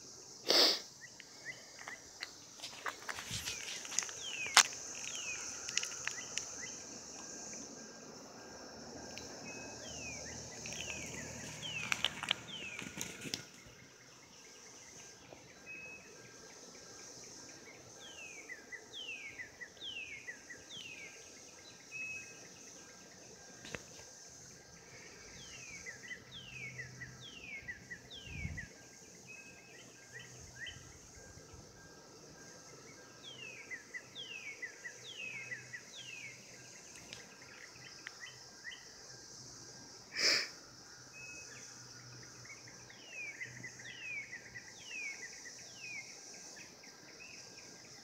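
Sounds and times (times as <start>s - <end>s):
cicadas droning: 0.0s - 48.0s.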